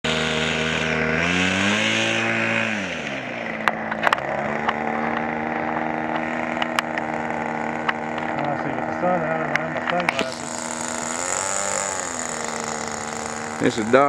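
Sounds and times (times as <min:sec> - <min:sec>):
model airplane engine idling: 0:00.0 - 0:14.0.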